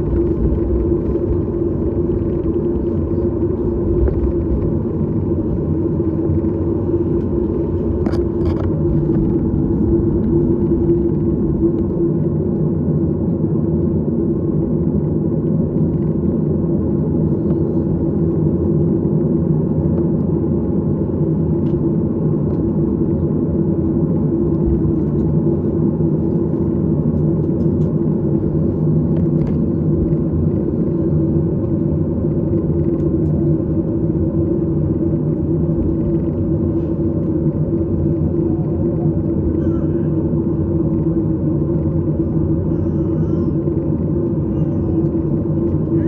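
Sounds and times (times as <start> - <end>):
airliner engines in cabin: 0.0 - 46.0.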